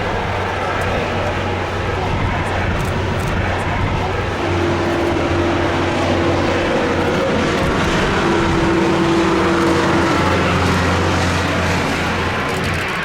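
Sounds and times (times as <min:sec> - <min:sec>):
jet engine roar: 0:00.0 - 0:13.0
wind on microphone: 0:00.0 - 0:13.0.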